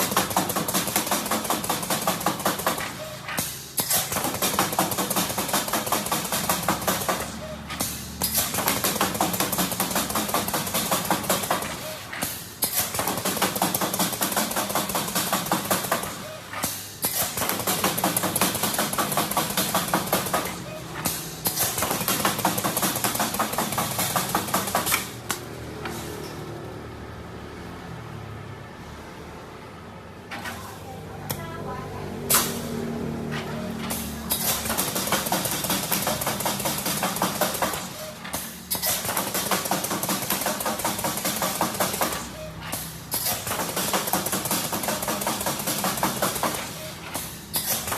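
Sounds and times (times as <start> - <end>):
welding machine clacking: 0.0 - 26.2, 33.2 - 47.9.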